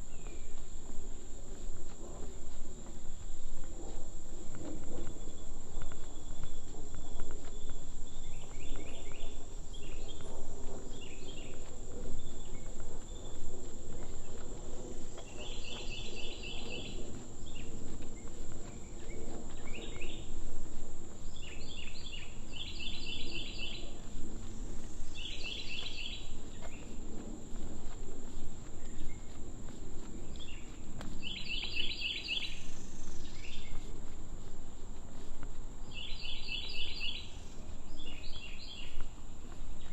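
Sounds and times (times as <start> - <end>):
low outdoor rumble: 0.0 - 36.0
insects buzzing: 0.0 - 39.9.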